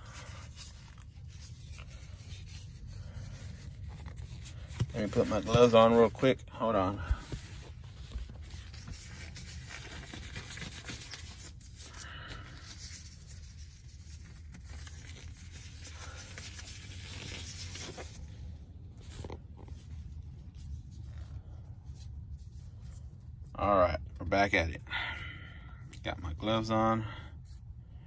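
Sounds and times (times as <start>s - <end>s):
gloves rubbing and rustling: 0.0s - 23.6s.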